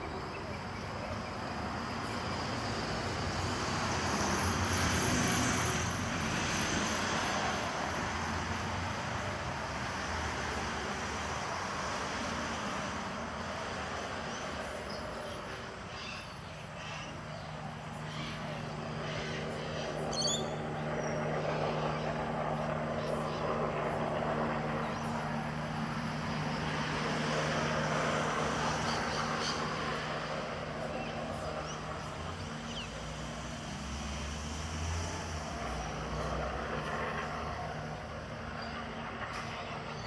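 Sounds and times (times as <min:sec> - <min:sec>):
passing road traffic: 0:00.0 - 0:40.0.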